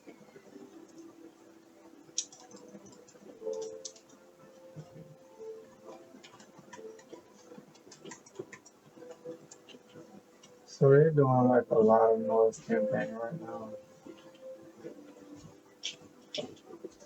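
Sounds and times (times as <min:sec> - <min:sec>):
ticks and clicks: 0:00.0 - 0:10.7, 0:12.6 - 0:17.0.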